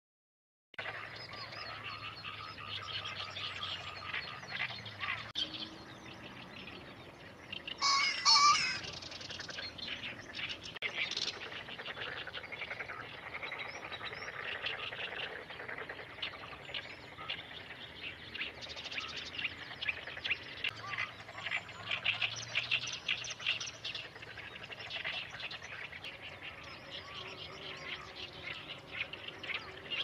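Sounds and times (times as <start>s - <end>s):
birds chattering: 0.8s - 30.0s.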